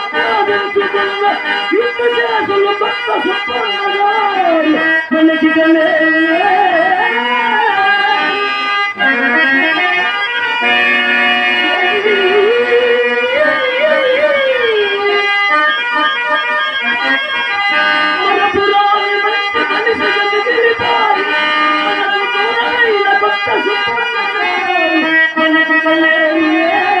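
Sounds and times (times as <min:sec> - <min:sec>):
man singing ornamented verse: 0:00.0 - 0:10.1, 0:11.5 - 0:15.2, 0:17.0 - 0:27.0
harmonium chords: 0:00.0 - 0:27.0.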